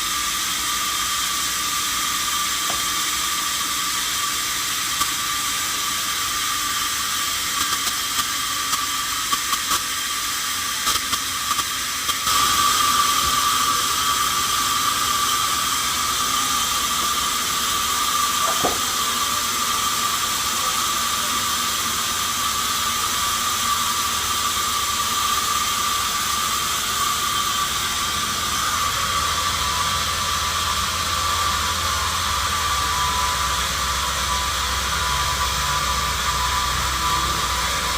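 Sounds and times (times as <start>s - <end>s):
sawmill machinery hissing: 0.0s - 37.9s.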